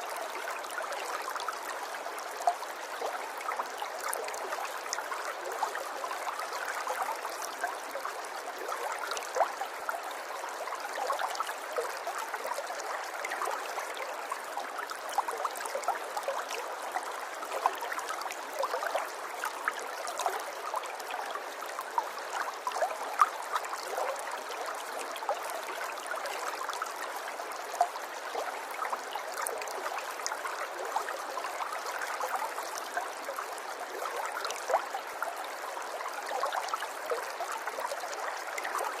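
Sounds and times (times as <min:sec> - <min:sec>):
river water flowing and trickling: 0:00.0 - 0:39.0.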